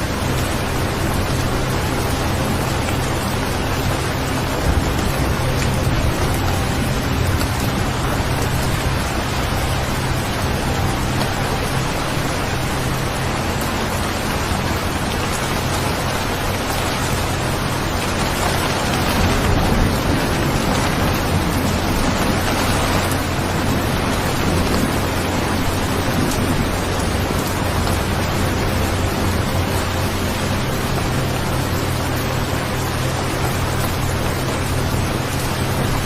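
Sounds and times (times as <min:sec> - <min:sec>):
heavy rainfall: 0:00.0 - 0:36.0
low rumble: 0:00.0 - 0:36.0.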